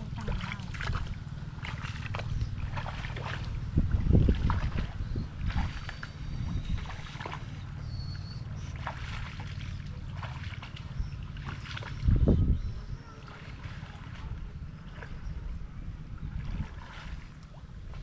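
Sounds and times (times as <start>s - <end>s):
steady low rumble: 0.0s - 18.0s
water splashing and sloshing: 0.0s - 18.0s.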